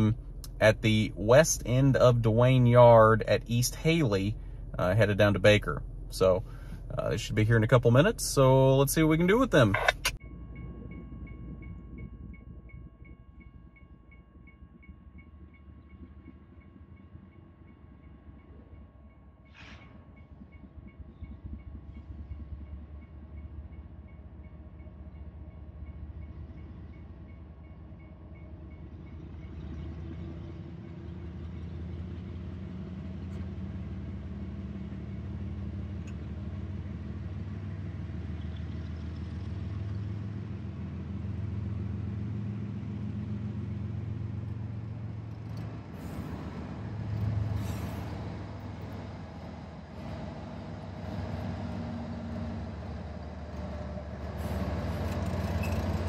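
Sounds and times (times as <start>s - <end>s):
locomotive engine droning: 0.0s - 56.0s.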